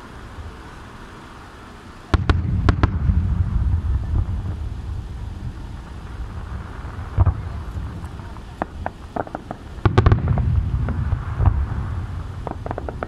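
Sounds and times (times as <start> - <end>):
fireworks bangs: 0.0 - 13.0
rolling rumble of echoing booms: 2.1 - 13.0.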